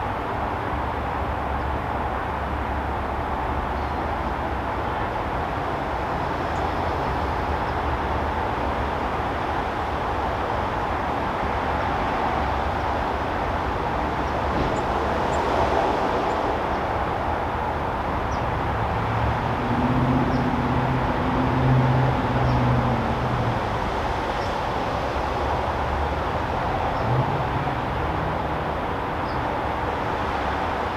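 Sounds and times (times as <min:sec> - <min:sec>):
traffic hum: 0:01.5 - 0:30.9.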